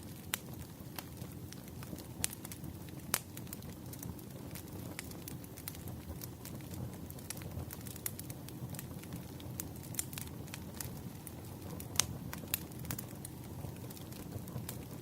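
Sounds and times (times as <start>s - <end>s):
fire low rumble: 0.0s - 15.0s
fire pops and snaps: 0.0s - 15.0s.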